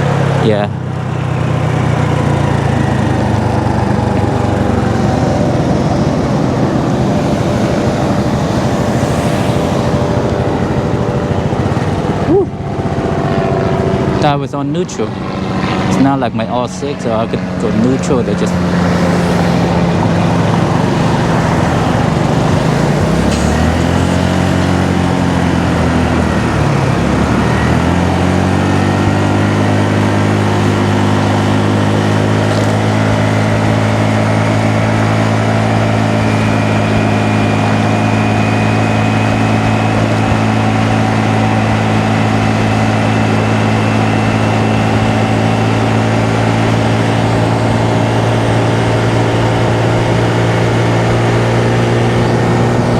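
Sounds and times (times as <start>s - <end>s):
small motorcycle engine running: 0.0s - 52.9s
wind and road noise: 0.0s - 52.9s.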